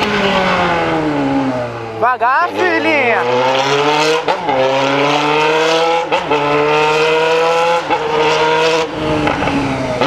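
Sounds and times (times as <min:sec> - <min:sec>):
loud motorcycle engine: 0:00.0 - 0:10.0.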